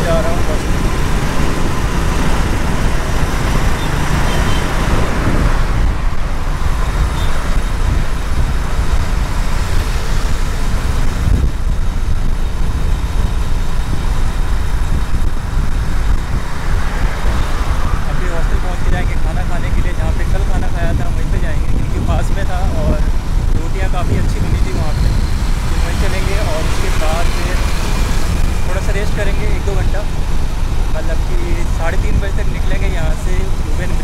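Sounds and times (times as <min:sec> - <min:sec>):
motorcycle engine: 0:00.0 - 0:20.3, 0:22.6 - 0:34.0
passing traffic: 0:00.0 - 0:34.0
wind rumble: 0:00.0 - 0:34.0.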